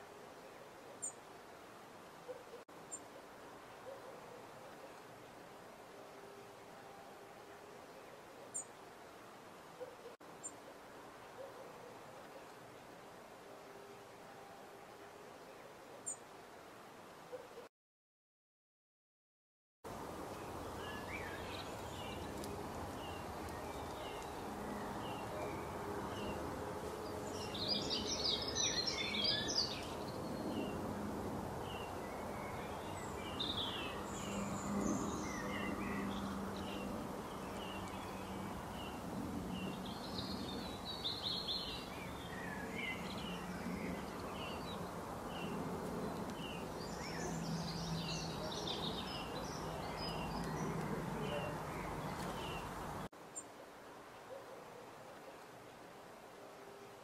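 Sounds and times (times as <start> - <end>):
outdoor background noise: 0.0 - 17.7, 19.9 - 57.0
songbirds chirping: 0.0 - 17.7, 19.9 - 57.0.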